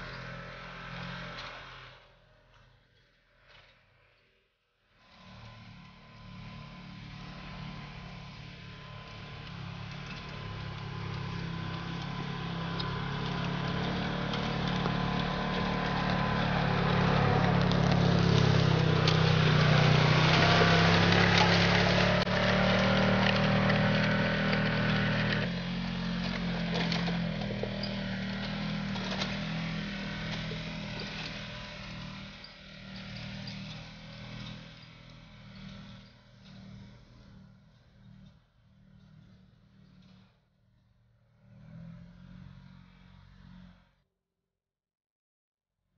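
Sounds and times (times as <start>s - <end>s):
engine running: 0.0s - 2.7s, 5.0s - 40.3s.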